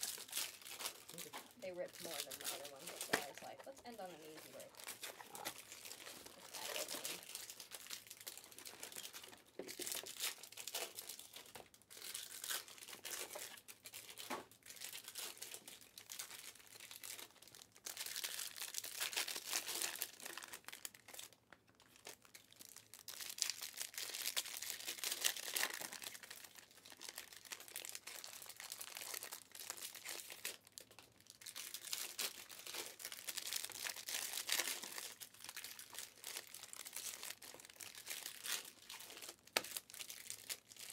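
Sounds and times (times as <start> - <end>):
card pack wrappers tearing: 0.0 - 40.9.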